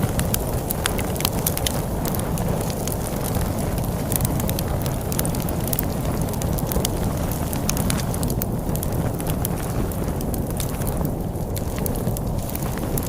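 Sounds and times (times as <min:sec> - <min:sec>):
log fire crackling and popping: 0:00.0 - 0:13.0
storm wind rumble: 0:00.0 - 0:13.0.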